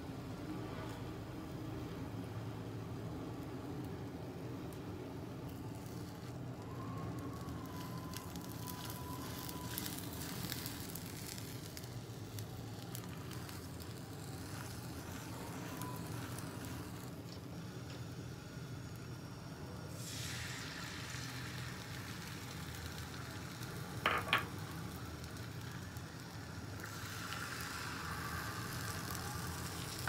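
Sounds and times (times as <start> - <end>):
gas burner flame: 0.0 - 30.0
egg sizzling and crackling: 3.3 - 30.0.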